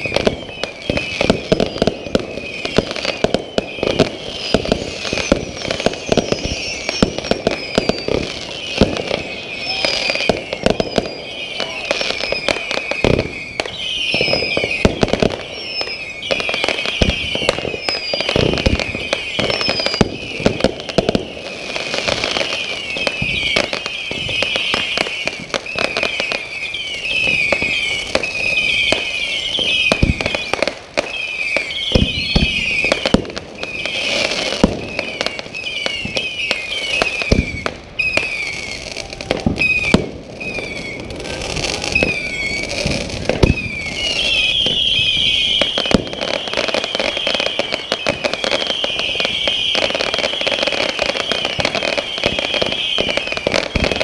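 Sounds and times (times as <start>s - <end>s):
fireworks bangs and crackles: 0.0s - 54.0s
fireworks whistling: 0.0s - 54.0s.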